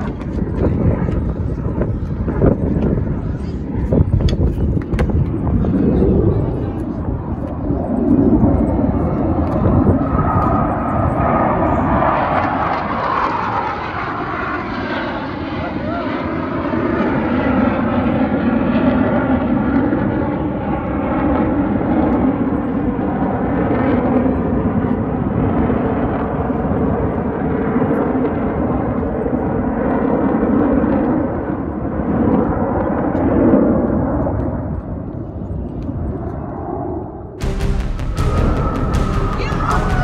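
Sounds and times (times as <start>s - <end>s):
jet engine roar: 0.0s - 40.0s.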